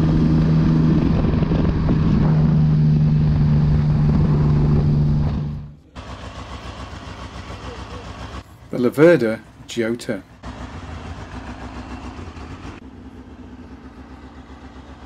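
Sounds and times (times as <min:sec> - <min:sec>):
motorcycle engine drone: 0:00.0 - 0:15.0
quieter steady engine sound: 0:00.0 - 0:15.0.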